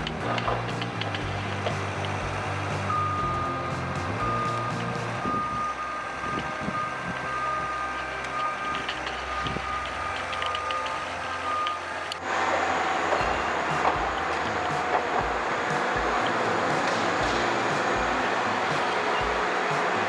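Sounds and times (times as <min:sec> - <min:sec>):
diesel engine running: 0:00.0 - 0:20.0
loud noisy machine: 0:00.0 - 0:20.0
reversing alarm beeping: 0:00.0 - 0:20.0.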